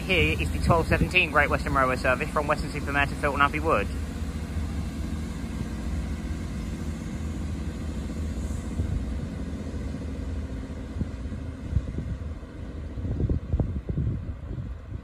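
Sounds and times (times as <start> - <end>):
diesel train engine drone: 0.0 - 15.0
wind buffeting microphone: 0.0 - 15.0.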